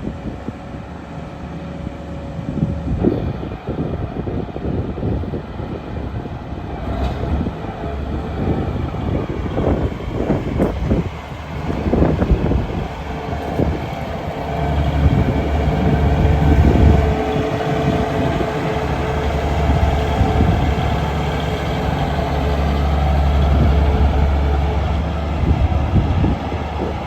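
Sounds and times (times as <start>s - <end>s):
tractor diesel engine drone: 0.0s - 27.0s.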